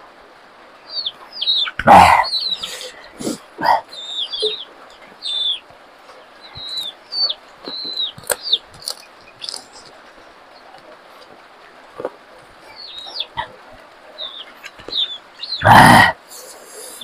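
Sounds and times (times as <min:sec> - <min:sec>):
bird chirping: 0:00.7 - 0:17.0.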